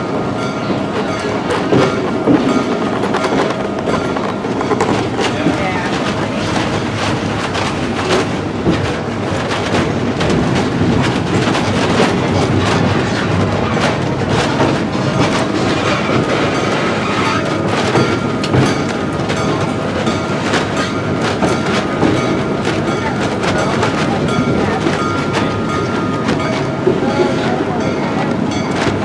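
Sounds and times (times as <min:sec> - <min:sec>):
train car rumble and rattle: 0:00.0 - 0:29.0
wheels clickety-clack over rail joints: 0:00.0 - 0:29.0.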